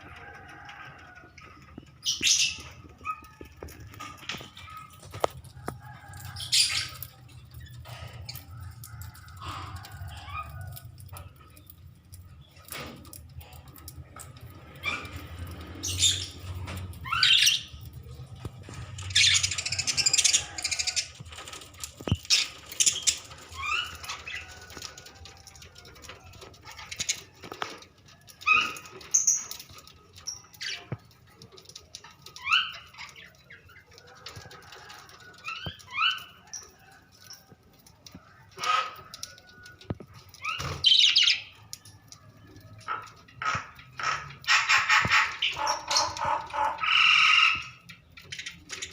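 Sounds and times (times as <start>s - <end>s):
wings fluttering: 0.0s - 48.9s.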